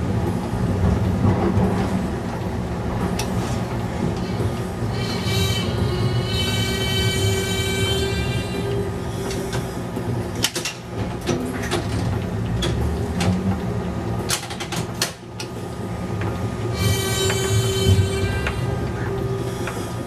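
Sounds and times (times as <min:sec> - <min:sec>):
streetcar rumbling on rails: 0:00.0 - 0:20.0.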